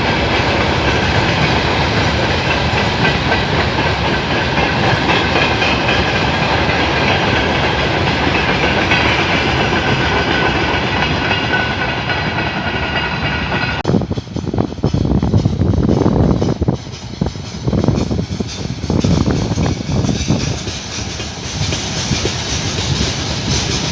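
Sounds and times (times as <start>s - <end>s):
train wheels rushing on rail: 0.0s - 23.9s.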